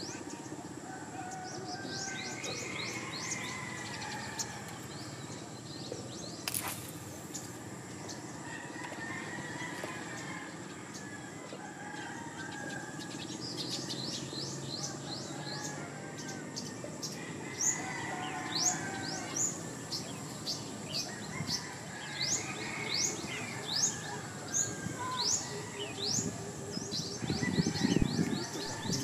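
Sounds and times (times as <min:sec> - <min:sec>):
birds chirping: 0:00.0 - 0:11.2, 0:11.8 - 0:29.0.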